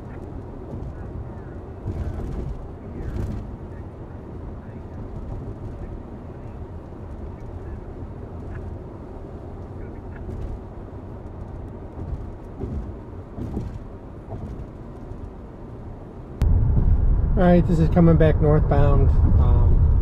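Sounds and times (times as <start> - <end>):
car cabin road rumble: 0.0 - 20.0.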